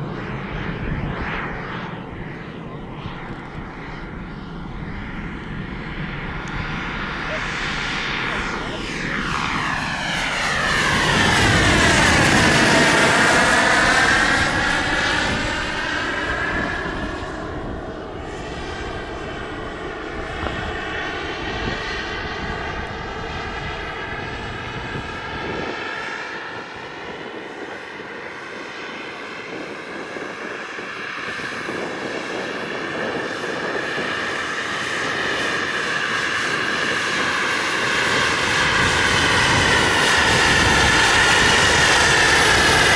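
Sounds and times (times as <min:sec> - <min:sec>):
model helicopter whine: 0:00.0 - 0:42.9.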